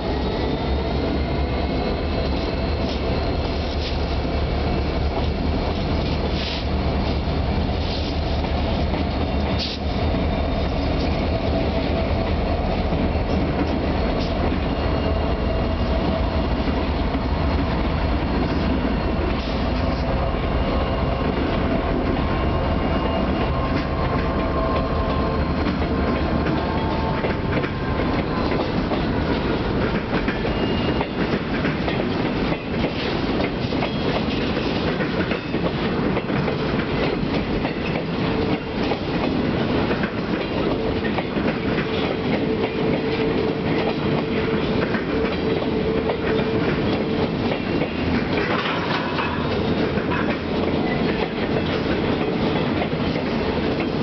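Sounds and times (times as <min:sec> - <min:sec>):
diesel locomotive engine rumble: 0:00.0 - 0:54.0
train wheels clicking over rails: 0:00.0 - 0:54.0.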